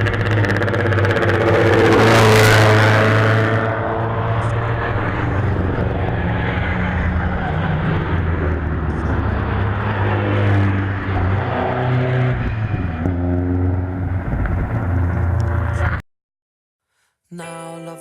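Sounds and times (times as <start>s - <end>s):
race car engine drone: 0.0s - 16.0s.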